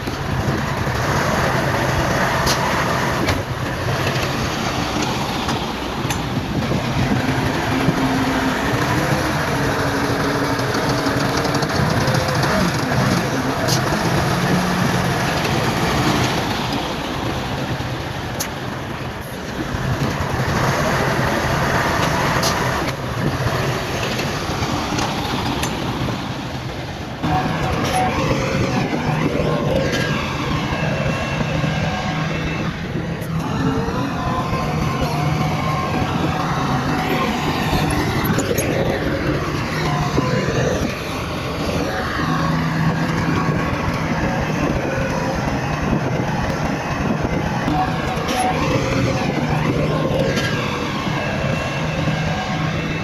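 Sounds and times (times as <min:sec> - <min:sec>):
bulldozer diesel engine running: 0:00.0 - 0:53.0
wavering whining tones: 0:00.0 - 0:53.0.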